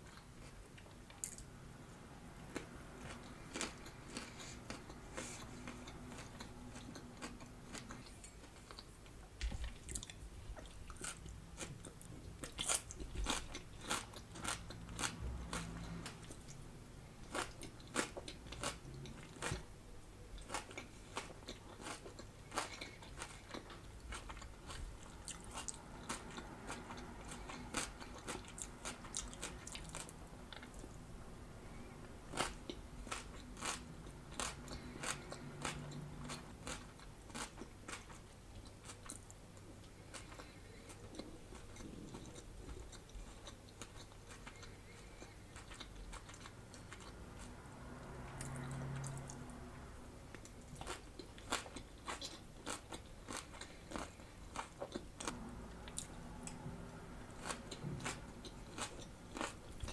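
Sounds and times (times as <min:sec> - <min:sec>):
chewing crunchy salad: 0:00.0 - 0:01.5, 0:02.4 - 0:19.7, 0:20.3 - 0:31.0, 0:31.7 - 0:59.9.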